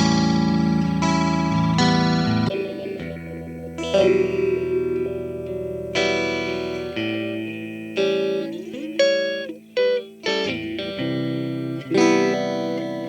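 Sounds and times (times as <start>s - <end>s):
electric guitar chords and notes: 0.0s - 13.0s.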